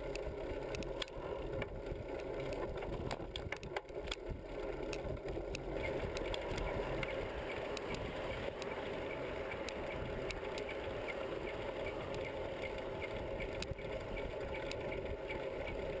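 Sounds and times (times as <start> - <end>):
bicycle tyres rushing on road: 0.0 - 16.0
bike ticks and clicks: 0.0 - 16.0.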